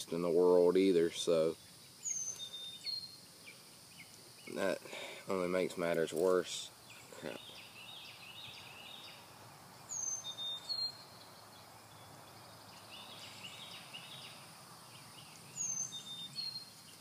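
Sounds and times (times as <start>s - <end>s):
faint background chirping: 0.0s - 17.0s.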